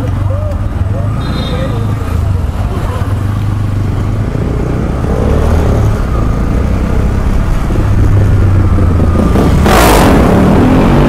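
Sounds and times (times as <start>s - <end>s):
motorcycle engines running slowly: 0.0s - 9.3s.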